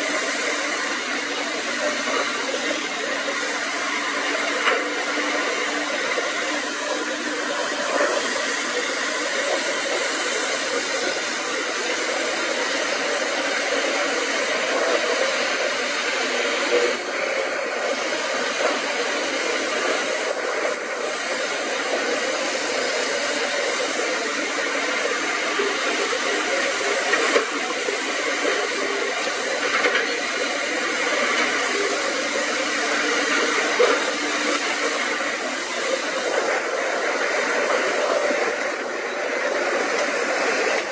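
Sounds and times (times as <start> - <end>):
excavator engines droning: 0.0 - 40.9.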